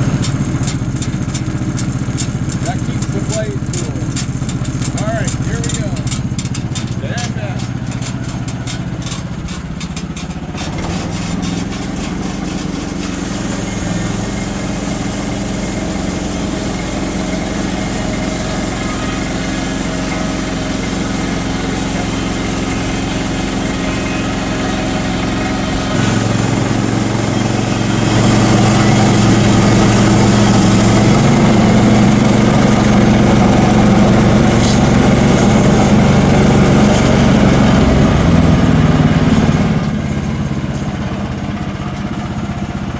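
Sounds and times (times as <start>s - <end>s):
saw blade cutting log: 0.0s - 24.7s, 25.7s - 38.4s
sawmill engine running: 0.0s - 42.9s.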